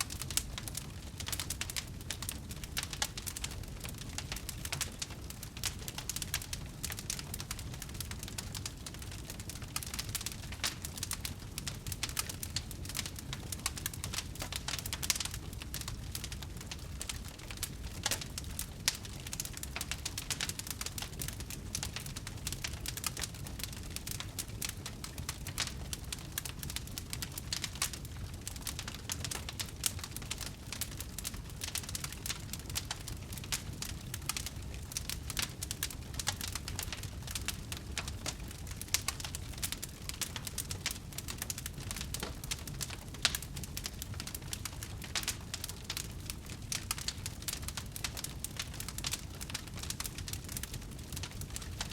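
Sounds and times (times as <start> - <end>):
low rumble of flame: 0.0 - 51.9
wood fire crackling and popping: 0.0 - 51.9.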